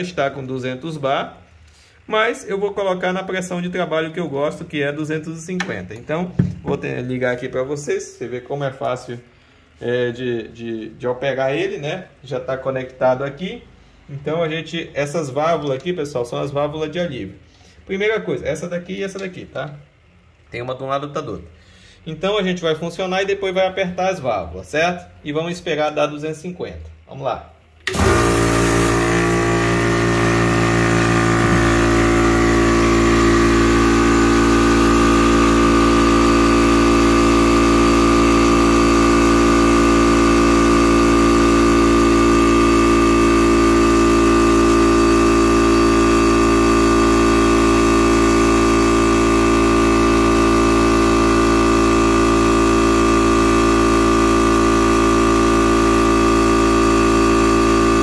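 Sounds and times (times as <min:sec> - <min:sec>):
air compressor running: 0:00.0 - 0:20.6, 0:27.8 - 0:58.0.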